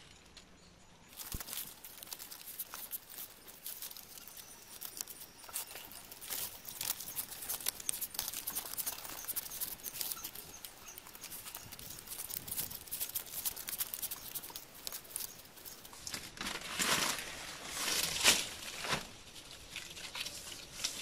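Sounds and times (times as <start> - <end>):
leaf strips rustling and crackling: 1.1 - 21.0.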